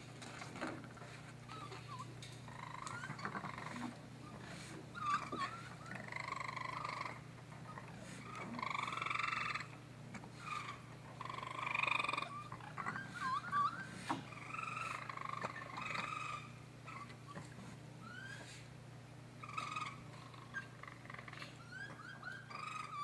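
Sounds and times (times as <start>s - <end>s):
baby raccoons crying: 1.0s - 18.7s, 19.4s - 23.0s.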